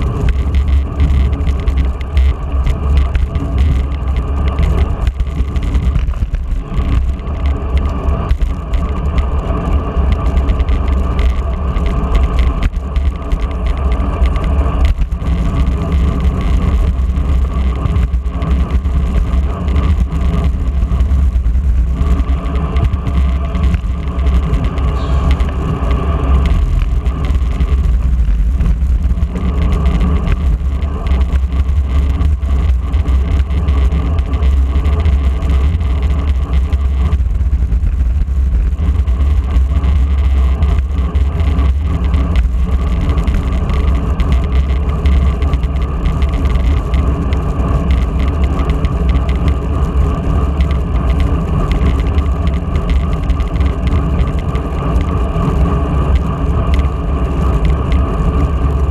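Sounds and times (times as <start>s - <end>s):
bicycle tyres humming on asphalt: 0.0s - 58.9s
wind on microphone: 0.0s - 58.9s.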